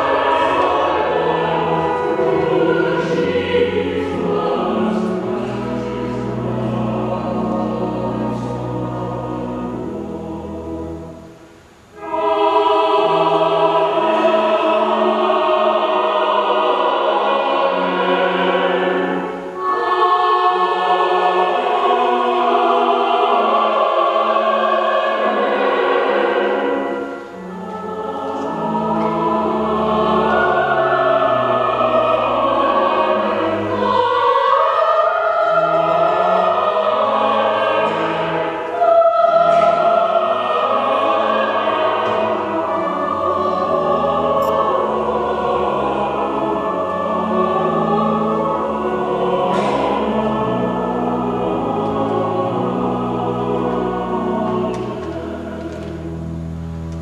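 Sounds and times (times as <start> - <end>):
church choir singing: 0.0 - 57.0.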